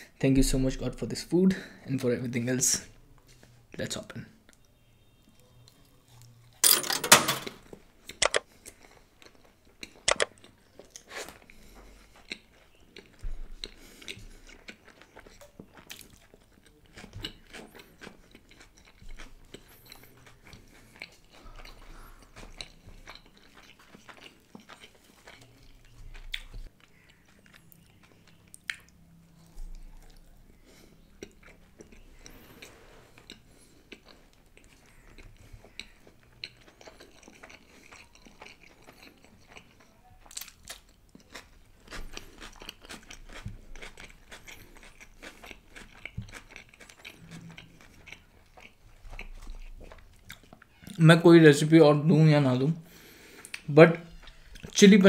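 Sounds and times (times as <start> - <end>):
chewing with crunches: 4.4 - 6.6, 7.6 - 51.0, 52.8 - 54.9.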